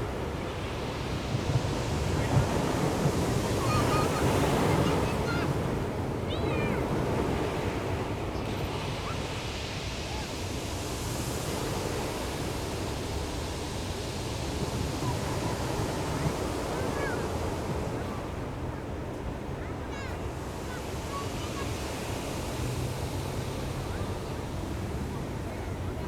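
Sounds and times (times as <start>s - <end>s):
ocean surf washing onto shore: 0.0s - 26.0s.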